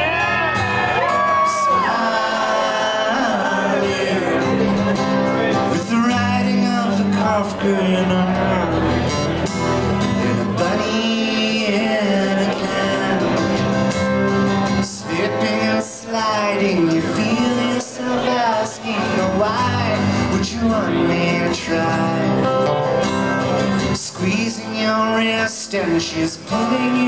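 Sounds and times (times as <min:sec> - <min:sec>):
acoustic guitars playing: 0:00.0 - 0:27.0
man singing: 0:01.0 - 0:27.0.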